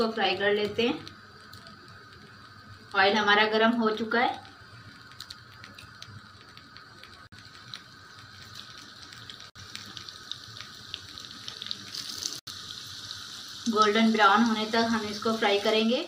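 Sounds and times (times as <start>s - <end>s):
cutlets frying in hot oil: 0.0s - 16.0s.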